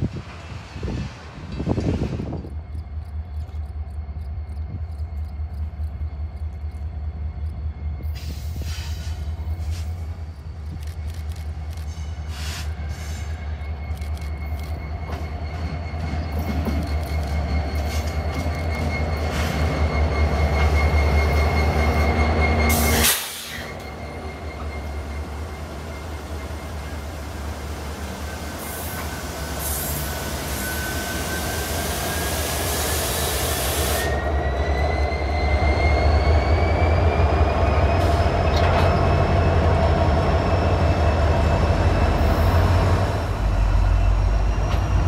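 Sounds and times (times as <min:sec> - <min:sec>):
train rumbling past: 0:00.0 - 0:45.0.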